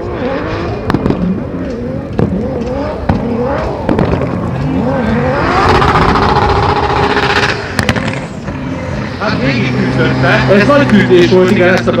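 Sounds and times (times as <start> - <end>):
car engine revving hard: 0.0 - 12.0
sharp exhaust bangs: 0.0 - 12.0.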